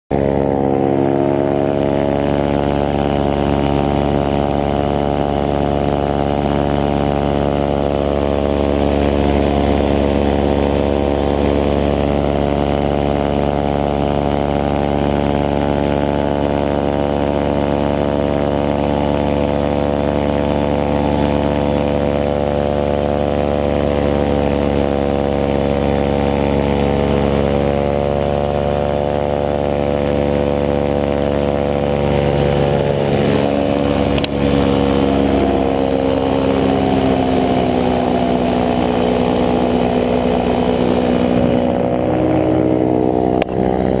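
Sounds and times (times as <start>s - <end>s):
paramotor engine and propeller: 0.1s - 44.0s.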